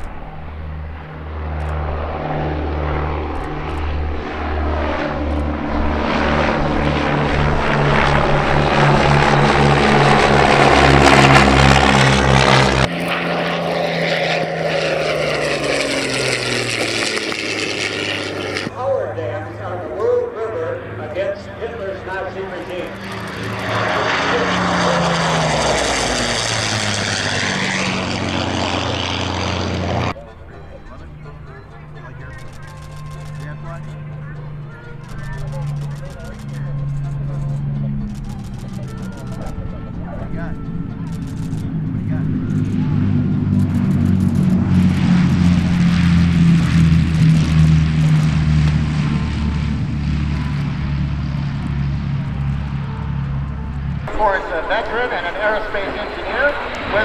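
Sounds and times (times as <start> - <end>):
propeller aircraft flying past: 0.0 - 57.0.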